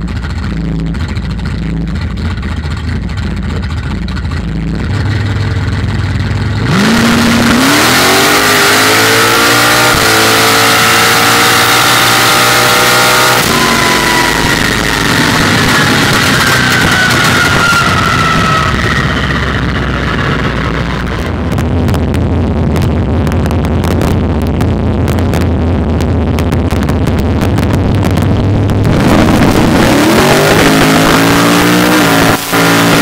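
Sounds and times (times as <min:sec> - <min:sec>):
drag car engine revving: 0:00.0 - 0:33.0.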